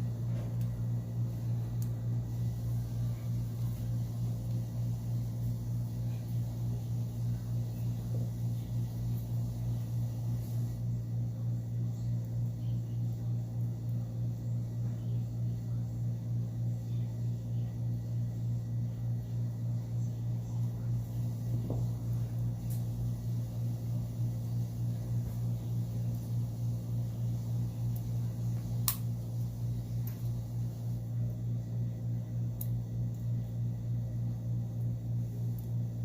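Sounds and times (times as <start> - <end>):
pulsing low machine hum: 0.0 - 36.0.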